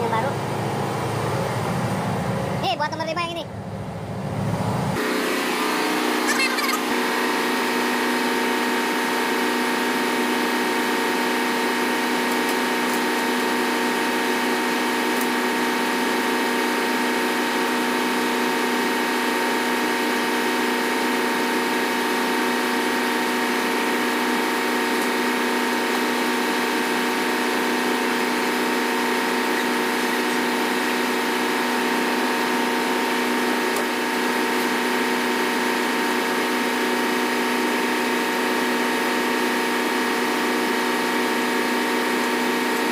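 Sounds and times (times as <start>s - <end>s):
engine-room machinery drone: 0.0s - 42.9s.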